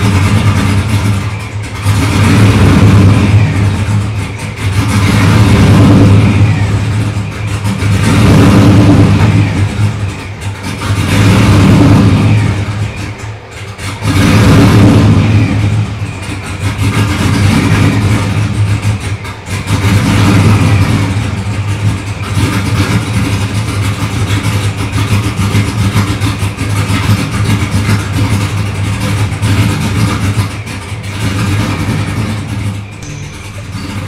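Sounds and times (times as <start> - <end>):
car engine revving: 0.0 - 34.0
supercharger whine: 0.0 - 34.0.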